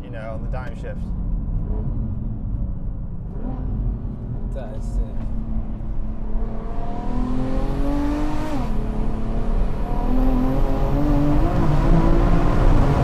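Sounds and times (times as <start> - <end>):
car engine revving in cabin: 0.4 - 13.0.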